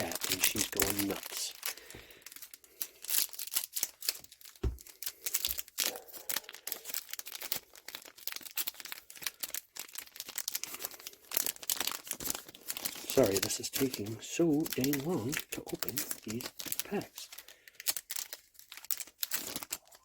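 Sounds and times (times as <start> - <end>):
wrapper crinkling and tearing: 0.0 - 20.0.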